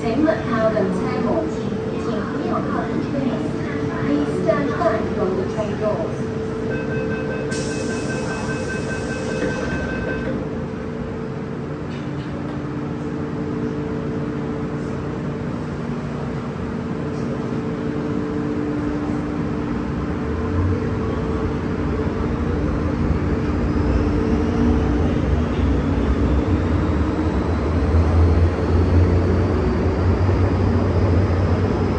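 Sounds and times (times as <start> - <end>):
rolling rail noise: 0.0 - 31.9
train hum: 0.0 - 31.9.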